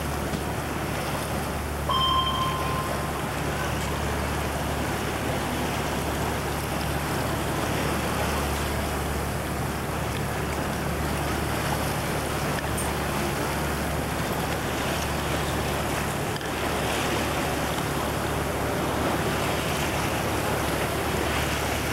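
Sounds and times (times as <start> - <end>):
boat engine drone: 0.0 - 21.9
water splashing along hull: 0.0 - 21.9.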